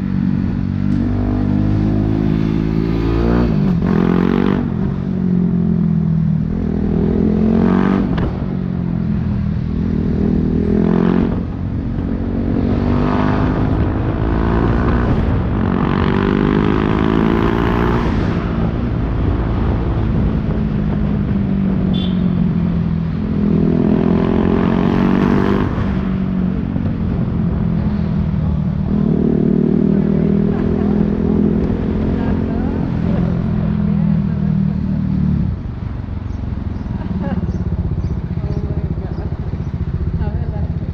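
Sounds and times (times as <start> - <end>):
motorcycle engine revving through gears: 0.0 - 40.9.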